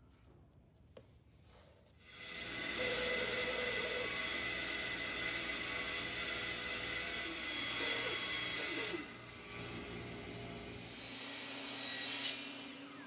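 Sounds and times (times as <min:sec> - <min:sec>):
band saw cutting wood: 0:02.1 - 0:13.0.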